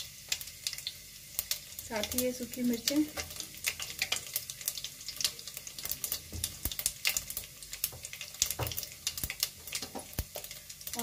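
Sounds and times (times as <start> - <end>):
oil crackling and popping: 0.0 - 11.0
seeds sizzling in hot oil: 0.0 - 11.0.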